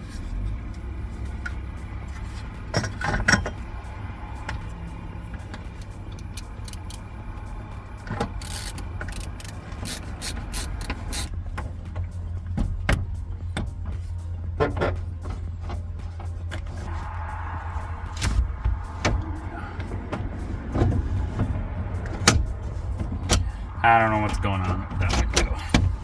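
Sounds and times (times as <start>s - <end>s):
steady low rumble: 0.0s - 9.6s, 10.5s - 26.0s.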